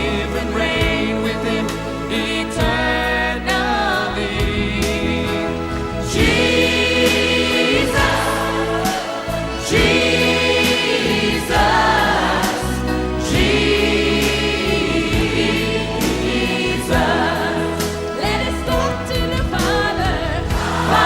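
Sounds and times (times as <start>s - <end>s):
bass and instruments: 0.0s - 21.0s
choir singing worship song: 0.0s - 21.0s.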